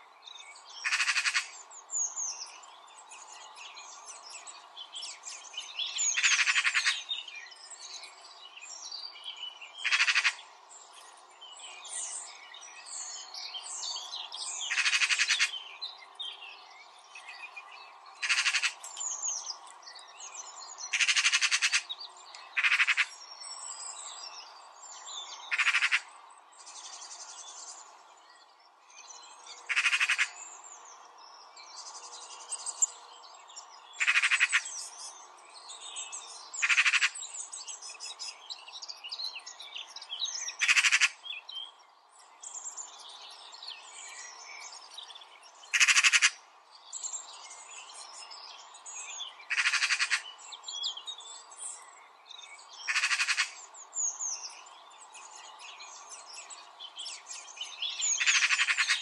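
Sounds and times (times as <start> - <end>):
birds chirping: 0.2 - 59.0.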